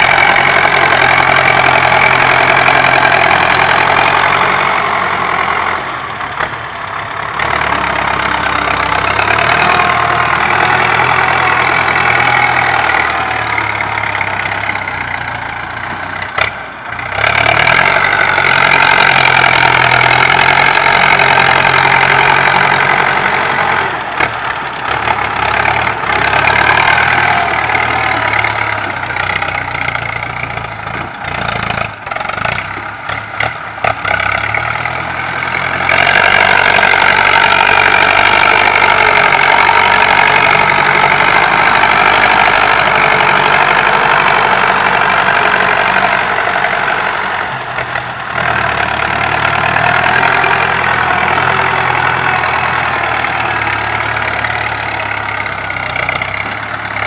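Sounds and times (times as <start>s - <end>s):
dozer blade pushing soil: 0.0s - 57.0s
tractor engine running: 0.0s - 57.0s.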